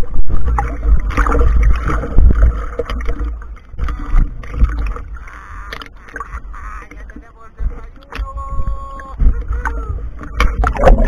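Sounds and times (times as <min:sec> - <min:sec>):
seawater sloshing and splashing: 0:00.0 - 0:11.0
waves knocking on camera housing: 0:00.5 - 0:11.0.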